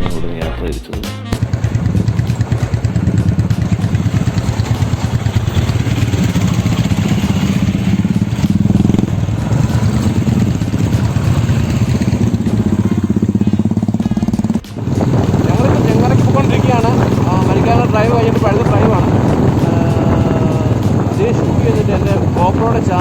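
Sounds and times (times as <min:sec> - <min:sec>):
motorcycle engine running: 0:01.4 - 0:23.0.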